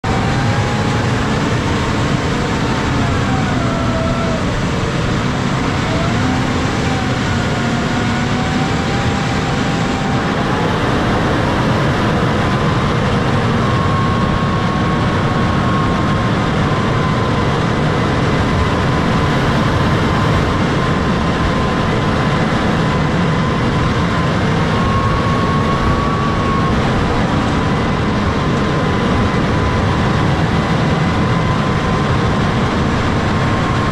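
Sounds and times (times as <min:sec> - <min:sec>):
thin whine: 0:00.0 - 0:33.9
tractor diesel engine under load: 0:00.0 - 0:33.9.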